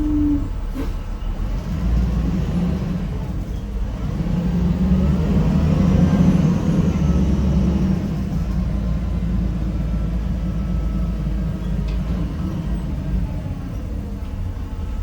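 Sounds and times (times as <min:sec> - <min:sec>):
bus engine hum from inside: 0:00.0 - 0:15.0.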